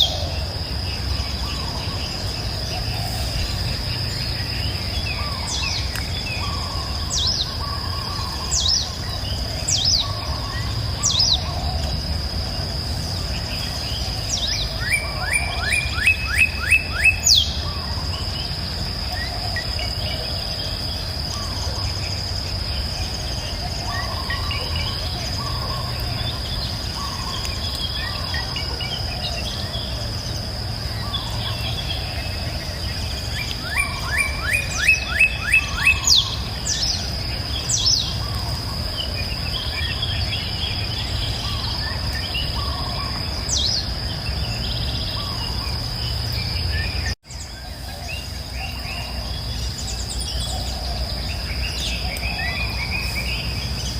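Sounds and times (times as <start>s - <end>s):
birds chirping and singing: 0.0s - 53.9s
insect drone: 0.0s - 53.9s.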